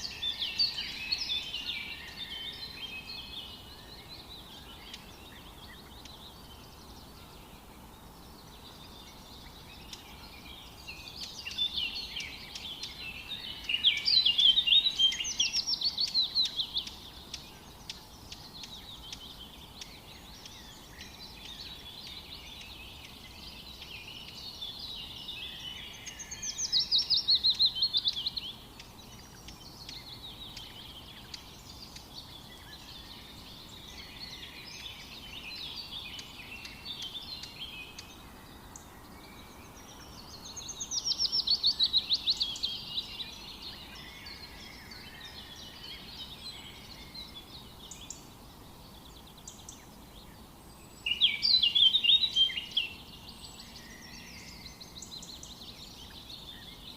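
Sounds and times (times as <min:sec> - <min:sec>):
faint ambient hiss: 0:00.0 - 0:56.9
songbirds singing: 0:00.0 - 0:56.9.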